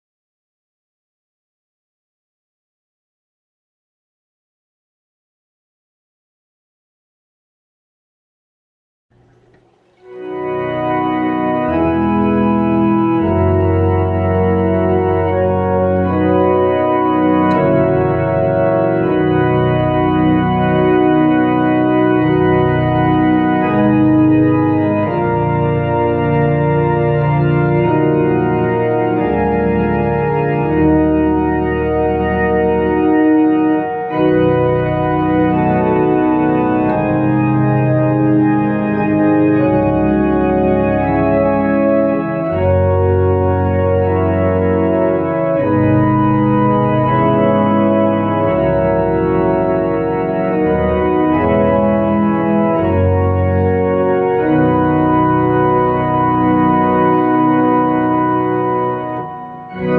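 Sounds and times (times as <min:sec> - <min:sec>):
electronic organ playing a hymn: 0:09.4 - 0:59.9.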